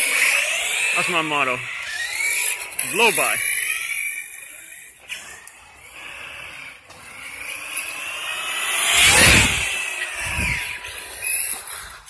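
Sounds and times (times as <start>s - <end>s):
electric motor whining: 1.8s - 12.0s.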